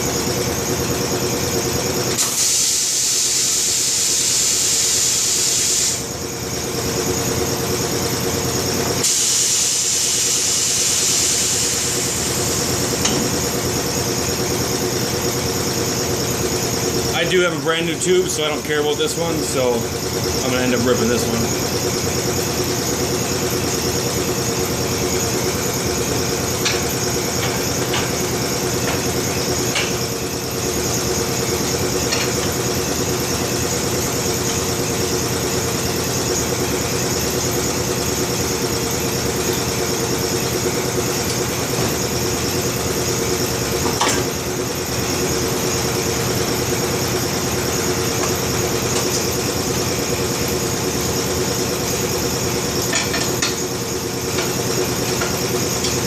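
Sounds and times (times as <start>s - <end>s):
machine humming: 10.5s - 56.0s.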